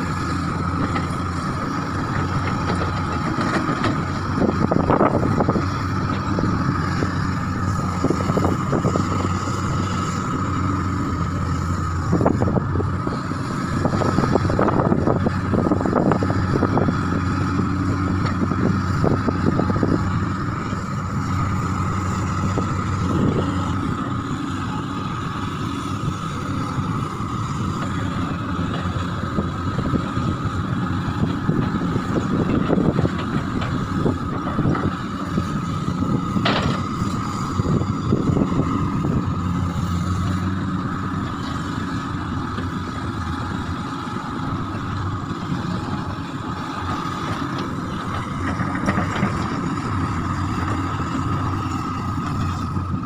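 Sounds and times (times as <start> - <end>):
excavator diesel engines under load: 0.0 - 53.0.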